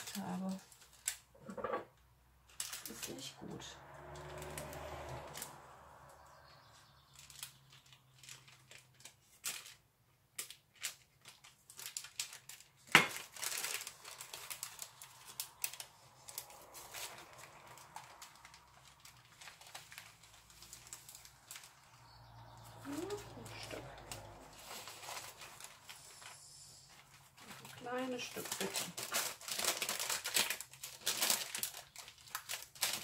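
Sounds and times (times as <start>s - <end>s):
baking paper rustling and crinkling: 0.0s - 1.6s, 2.4s - 3.6s, 4.2s - 33.0s.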